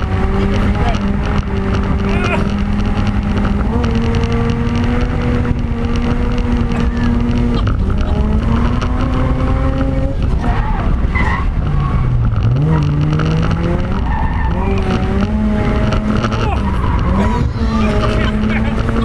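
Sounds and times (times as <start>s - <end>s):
rotary engine revving hard: 0.0s - 19.0s
tyres skidding: 0.0s - 19.0s.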